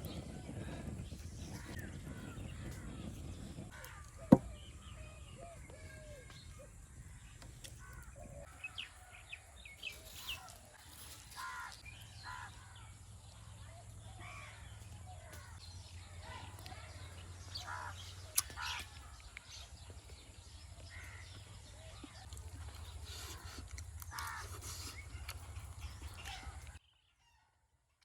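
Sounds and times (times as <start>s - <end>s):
birds chirping and cawing: 0.0s - 27.4s.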